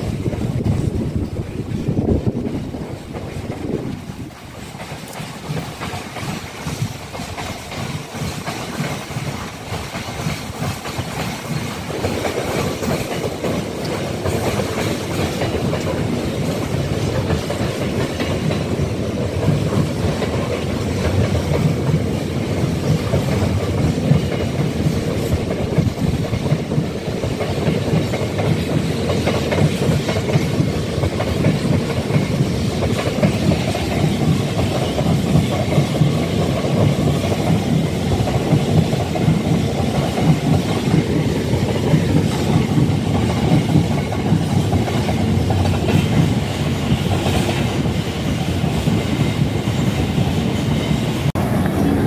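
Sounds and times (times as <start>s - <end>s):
train wheels clattering on rails: 0.0s - 52.0s.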